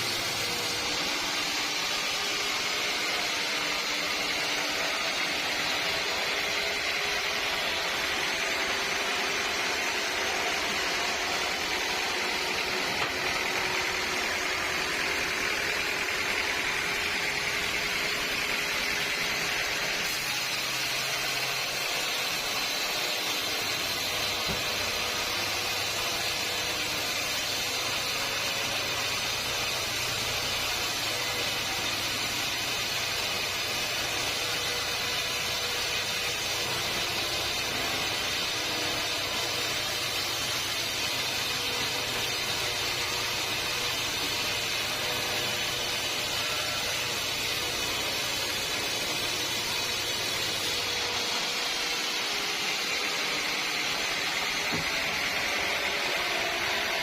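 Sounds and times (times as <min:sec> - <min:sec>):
saw whirring through log: 0:00.0 - 0:57.0.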